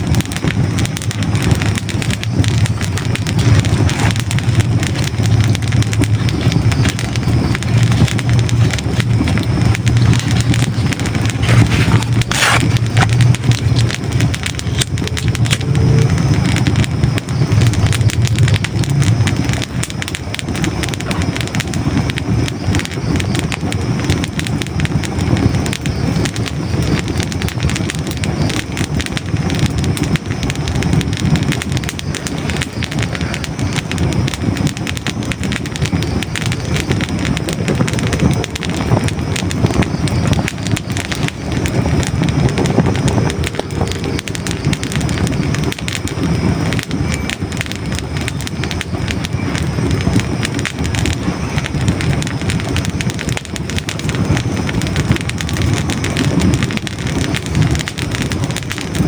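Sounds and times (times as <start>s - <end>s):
logs crackling in fireplace: 0.0s - 59.0s.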